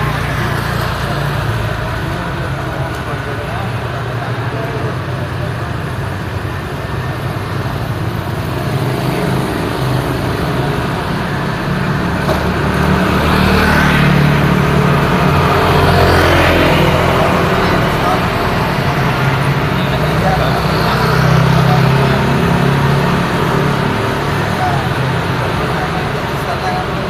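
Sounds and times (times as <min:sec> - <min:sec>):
passing cars: 0:00.0 - 0:27.0
vehicle passing close: 0:00.0 - 0:27.0.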